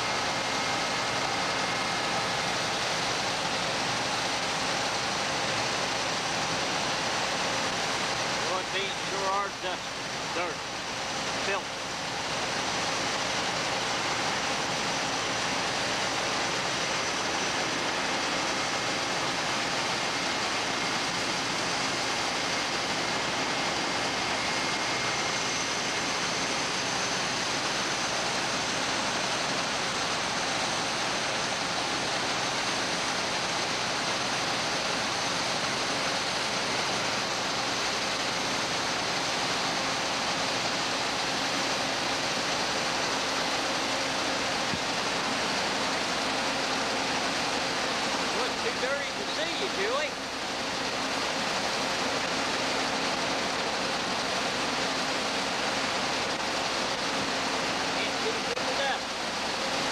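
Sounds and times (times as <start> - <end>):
combine harvester mechanical rush: 0.0 - 59.9.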